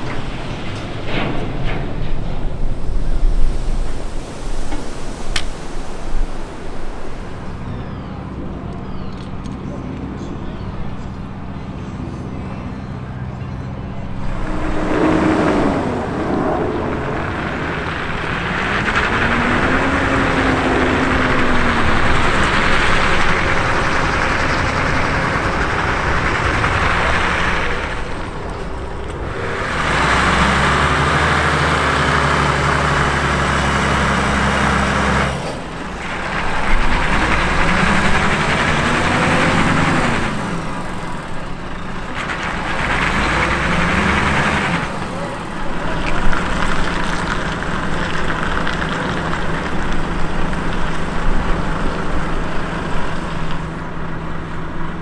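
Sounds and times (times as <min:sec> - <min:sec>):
truck diesel engine revving: 0:00.0 - 0:55.0.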